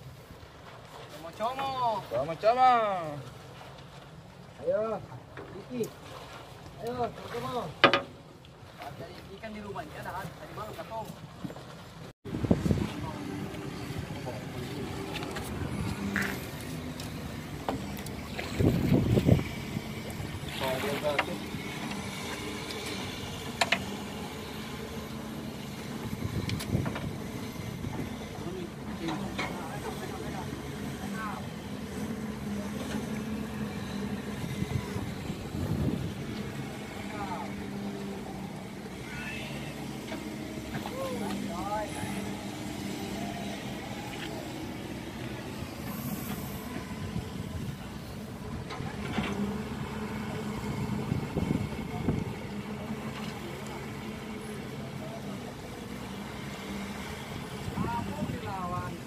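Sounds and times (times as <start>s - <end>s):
boat engine hum: 0.0s - 59.0s
choppy sea: 0.0s - 59.0s
wind: 0.0s - 59.0s.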